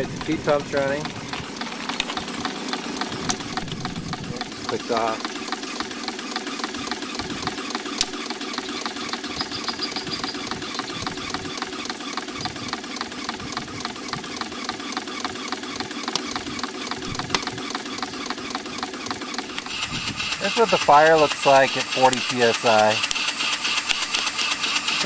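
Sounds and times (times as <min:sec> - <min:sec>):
small steam engine running: 0:00.0 - 0:25.0.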